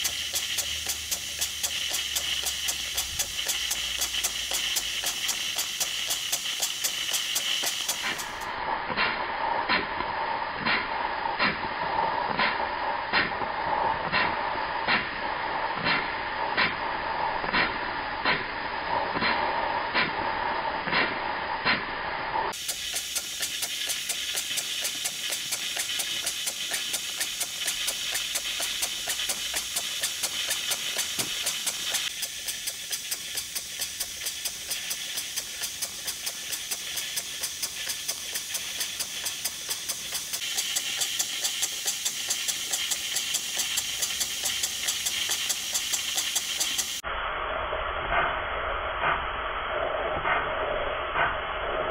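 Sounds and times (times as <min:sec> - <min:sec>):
steam engine exhaust beats: 0:00.0 - 0:51.9
steam hissing: 0:00.0 - 0:51.9.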